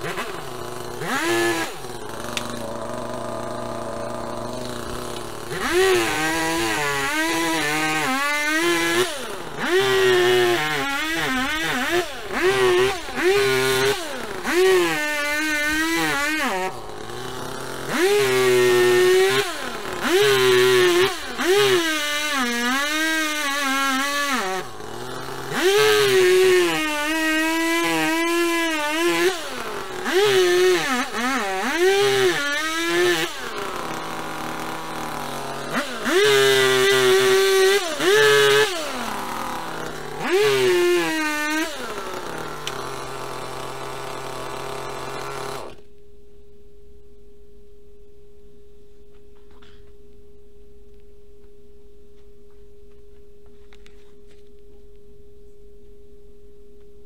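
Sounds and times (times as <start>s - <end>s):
chainsaw revving and idling: 0.0s - 45.9s.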